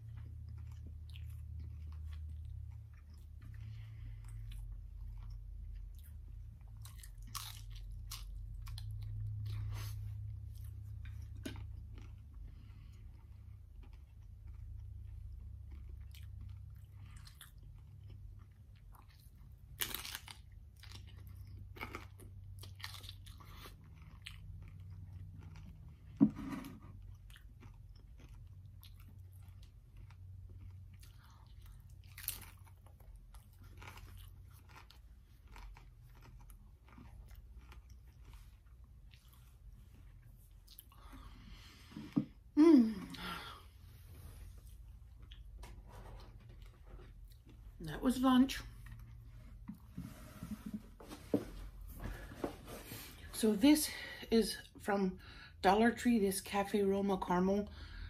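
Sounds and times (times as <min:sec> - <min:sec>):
crunching and chewing: 0:00.0 - 0:49.9
low steady hum: 0:00.0 - 0:58.0.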